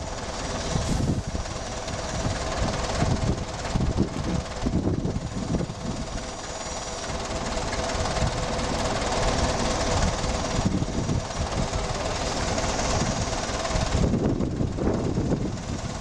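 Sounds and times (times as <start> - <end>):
constant hum: 0.0 - 16.0
forklift engine running: 0.0 - 16.0.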